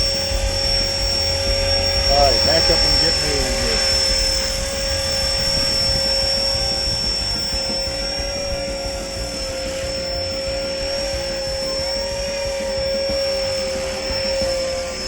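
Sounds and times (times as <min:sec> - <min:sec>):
electric motor whine: 0:00.0 - 0:15.0
helicopter rotor noise: 0:00.0 - 0:15.0.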